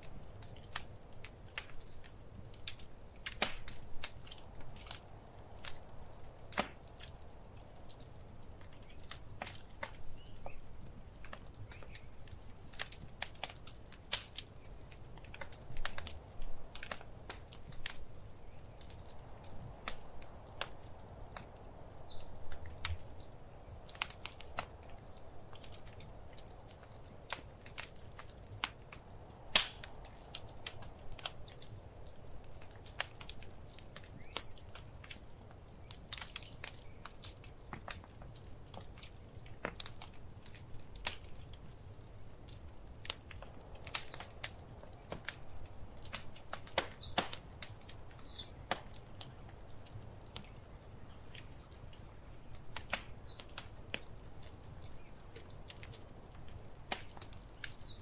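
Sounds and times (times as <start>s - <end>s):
low steady fire rumble: 0.0s - 58.0s
wood fire crackling and popping: 0.0s - 58.0s.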